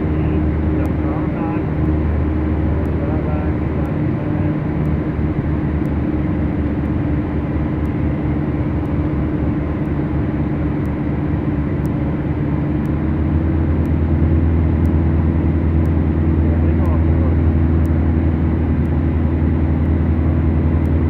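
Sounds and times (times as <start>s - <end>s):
aircraft piston engines droning: 0.0s - 21.0s.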